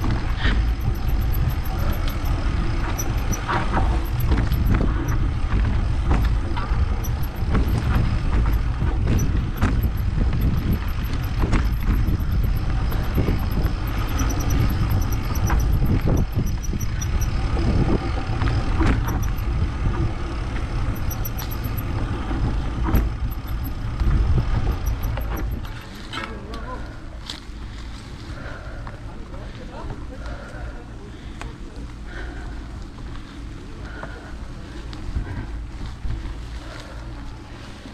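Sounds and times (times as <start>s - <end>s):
wind rumble on microphone: 0.0s - 31.1s, 31.8s - 37.9s
bike knocking and rattling: 0.0s - 37.9s.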